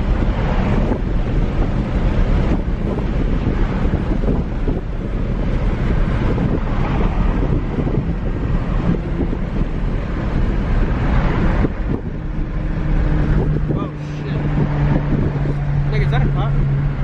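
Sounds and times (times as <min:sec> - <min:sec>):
car driving rumble: 0:00.0 - 0:17.0
wind buffeting microphone: 0:00.0 - 0:17.0.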